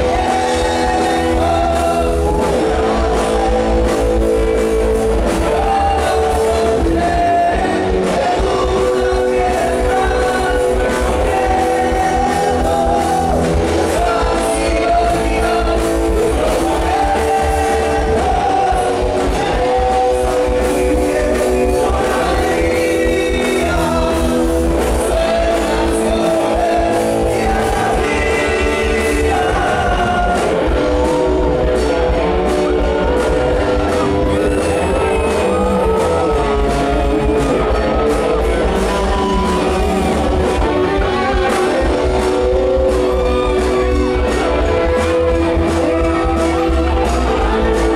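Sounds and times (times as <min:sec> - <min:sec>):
drums: 0:00.0 - 0:47.9
electric guitar: 0:00.0 - 0:47.9
man singing: 0:00.0 - 0:47.9.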